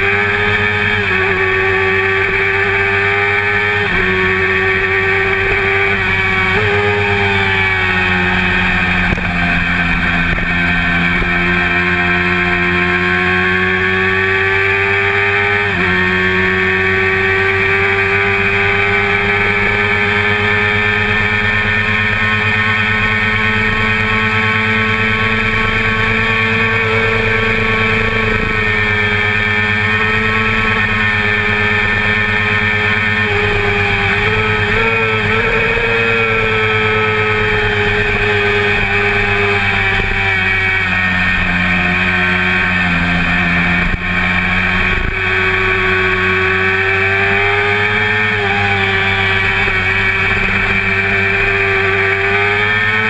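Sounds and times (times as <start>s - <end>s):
motorcycle engine at high revs: 0.0s - 53.0s.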